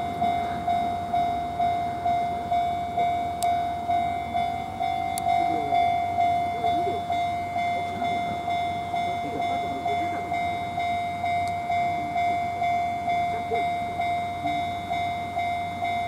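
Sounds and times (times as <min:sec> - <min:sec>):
level crossing alarm ringing: 0:00.0 - 0:16.0.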